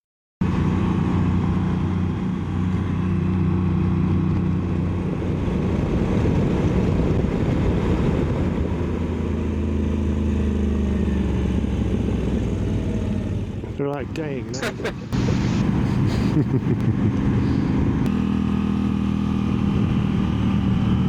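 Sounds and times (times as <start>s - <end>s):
wind and road noise: 0.4s - 21.0s.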